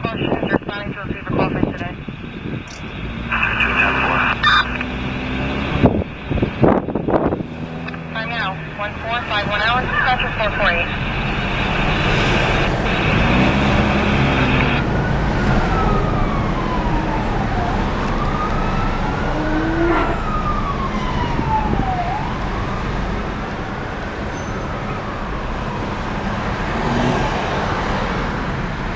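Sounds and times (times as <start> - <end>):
siren wailing: 0.0 - 26.8
road and engine noise: 0.0 - 28.9.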